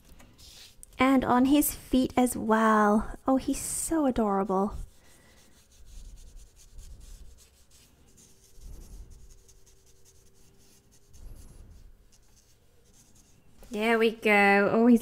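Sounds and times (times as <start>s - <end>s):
paintbrush rubbing on paper: 0.3s - 2.2s, 3.0s - 13.7s.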